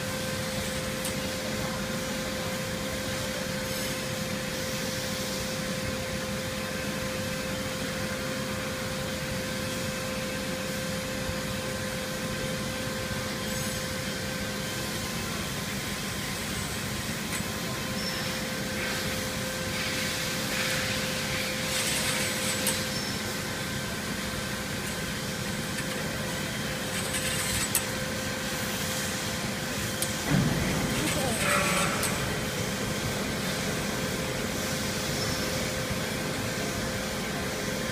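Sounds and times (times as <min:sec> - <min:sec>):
production line machinery humming: 0:00.0 - 0:37.9.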